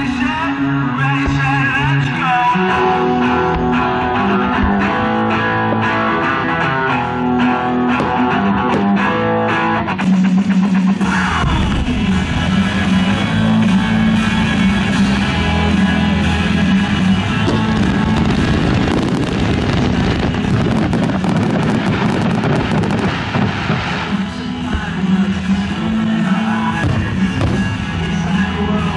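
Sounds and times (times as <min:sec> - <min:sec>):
fireworks crackling and popping: 0:00.0 - 0:09.1, 0:11.3 - 0:28.9
rock music with electric guitar: 0:00.0 - 0:28.9.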